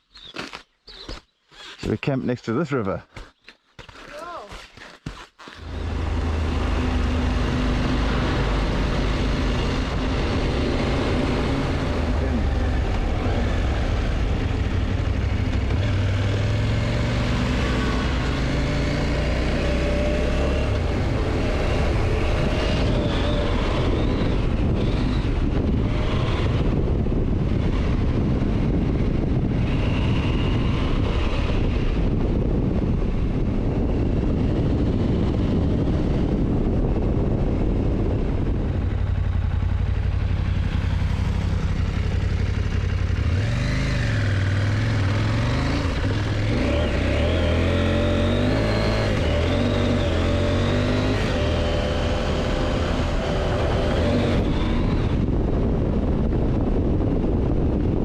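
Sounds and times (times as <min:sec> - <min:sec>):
motorcycle engine running: 0:05.6 - 0:58.0
wind rush on microphone: 0:05.6 - 0:58.0.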